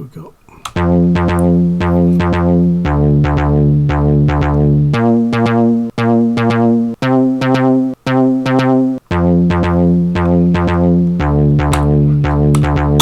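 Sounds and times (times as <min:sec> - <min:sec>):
sampled bass line: 0:00.7 - 0:13.0.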